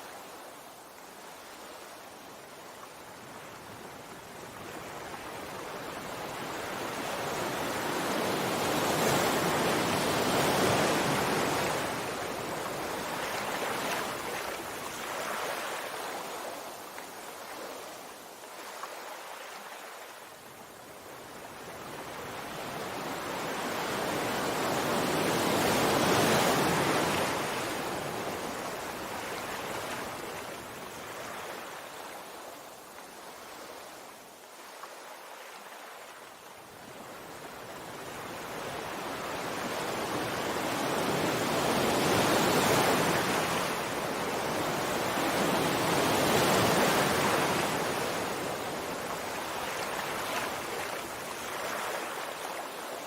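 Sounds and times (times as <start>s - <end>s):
sea waves washing ashore: 0.0s - 53.0s.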